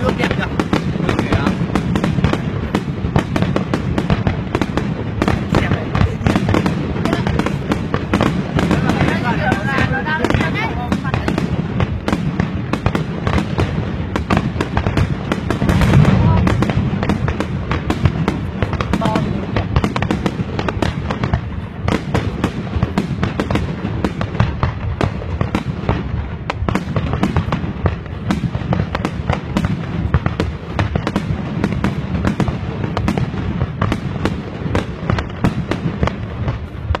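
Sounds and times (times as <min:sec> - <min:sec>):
fireworks cracks and bangs: 0:00.0 - 0:37.0.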